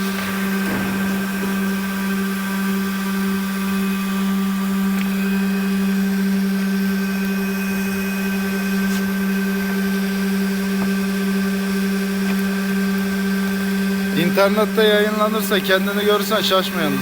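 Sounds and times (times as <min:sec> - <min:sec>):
trimming machine motor hum: 0:00.0 - 0:17.0.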